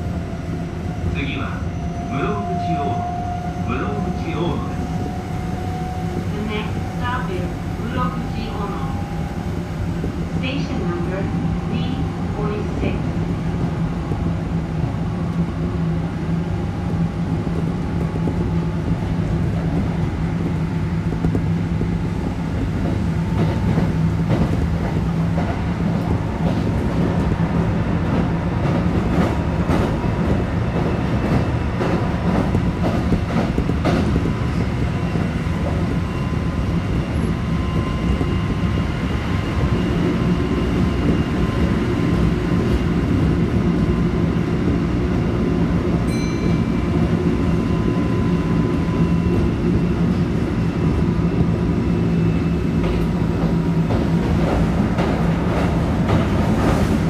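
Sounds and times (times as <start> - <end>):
electric train rumbling hum: 0.0 - 57.0.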